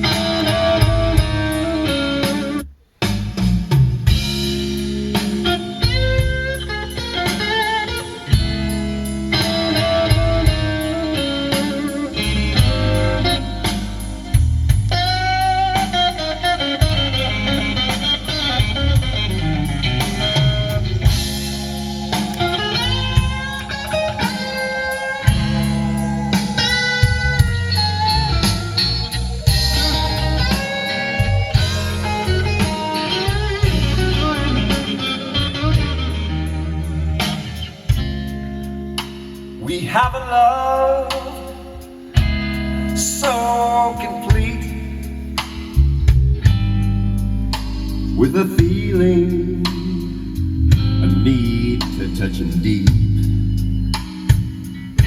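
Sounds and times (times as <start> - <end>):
electric guitar bending notes: 0.0 - 55.0
heavy bass line: 0.0 - 55.0.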